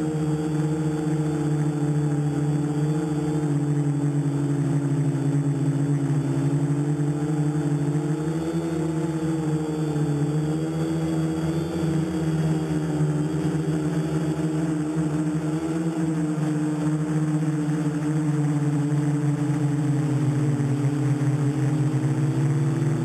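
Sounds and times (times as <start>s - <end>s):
drone motors humming: 0.0s - 23.0s.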